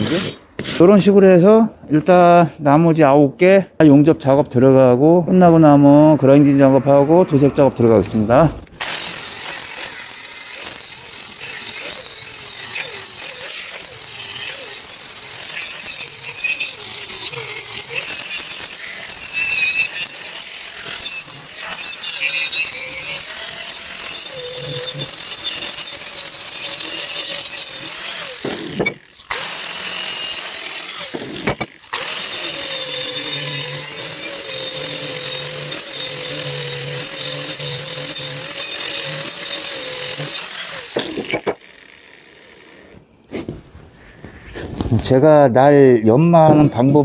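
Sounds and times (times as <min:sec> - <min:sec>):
angle grinder grinding steel: 0:00.0 - 0:01.2, 0:05.5 - 0:43.1.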